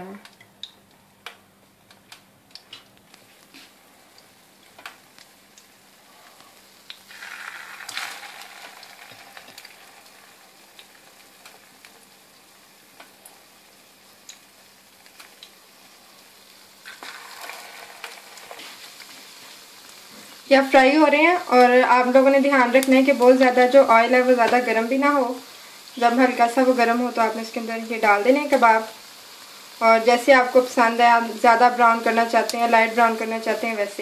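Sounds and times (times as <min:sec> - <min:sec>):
cutlets sizzling in oil: 0:02.6 - 0:34.0.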